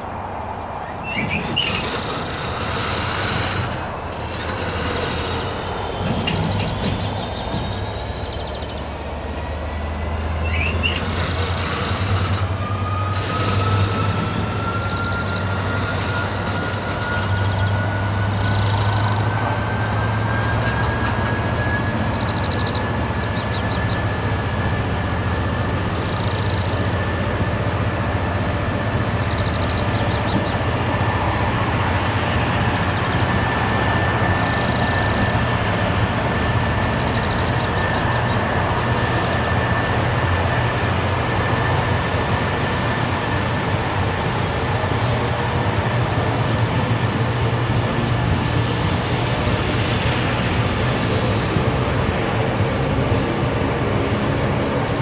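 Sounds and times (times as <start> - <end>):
train passing with low hum: 0.0 - 55.0.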